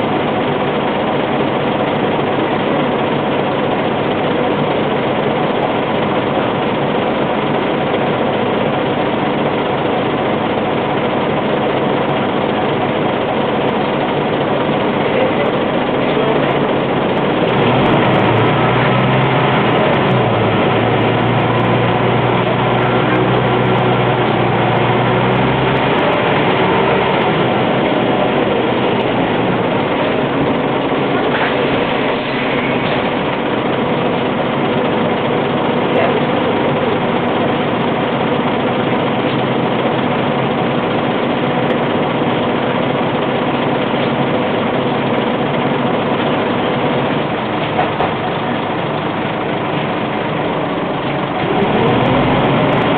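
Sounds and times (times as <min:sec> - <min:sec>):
bus diesel engine running: 0:00.0 - 0:52.9.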